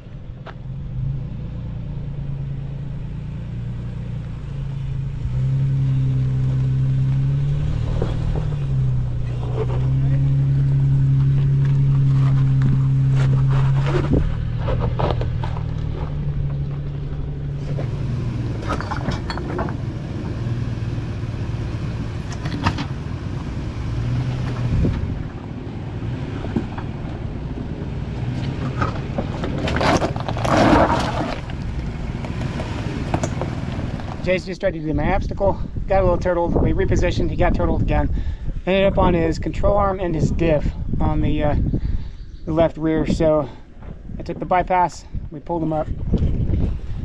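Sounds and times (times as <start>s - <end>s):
off-road vehicle engine running: 0.0s - 47.0s.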